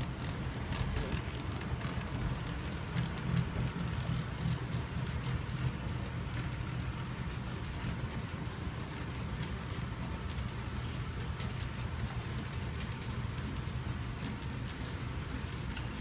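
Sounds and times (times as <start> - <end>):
model train wheels rumbling on track: 0.0 - 16.0.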